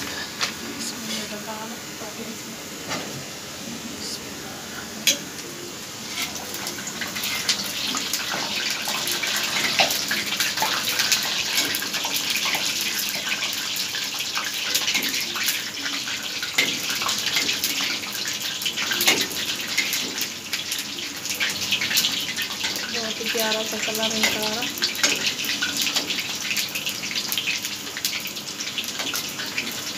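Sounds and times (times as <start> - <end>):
deep-frying sizzle with pops: 0.0 - 3.6, 5.0 - 29.9.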